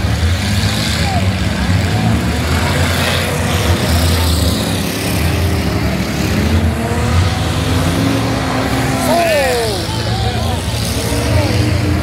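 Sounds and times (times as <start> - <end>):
car engines running loudly: 0.0 - 12.0.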